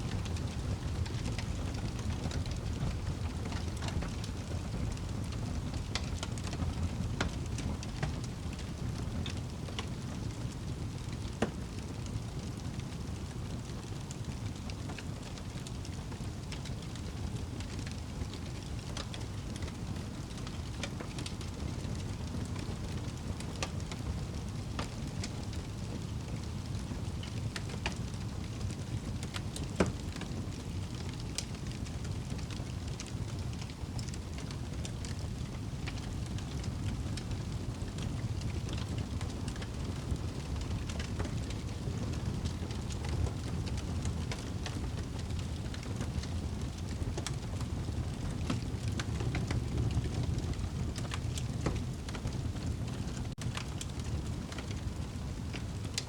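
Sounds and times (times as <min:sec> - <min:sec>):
fire crackling and popping: 0:00.0 - 0:56.0
fire flames rumbling: 0:00.0 - 0:56.0.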